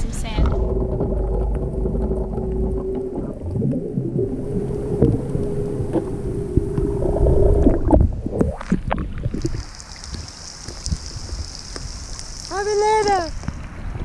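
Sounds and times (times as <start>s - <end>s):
muffled boat engine underwater: 0.0s - 14.0s.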